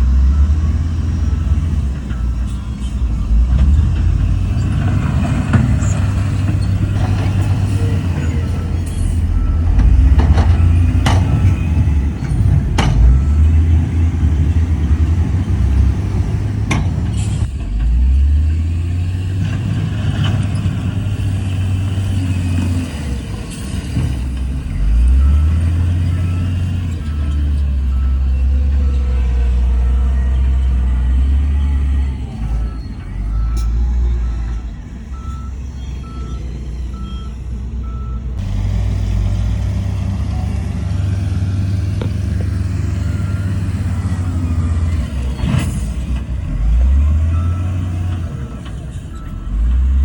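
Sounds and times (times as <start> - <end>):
heavy diesel machinery rumbling: 0.0 - 50.0.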